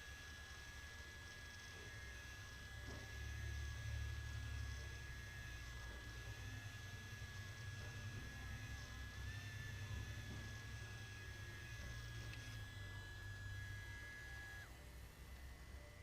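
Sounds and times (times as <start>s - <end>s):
pen motor high whine: 0.0s - 16.0s.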